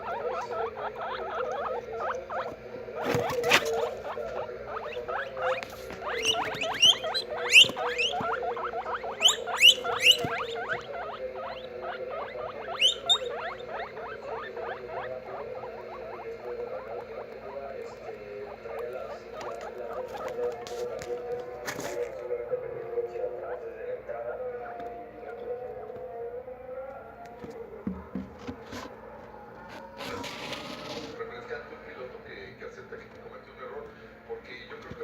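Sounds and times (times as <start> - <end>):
guinea pigs squealing: 0.0 - 27.8, 28.5 - 33.8.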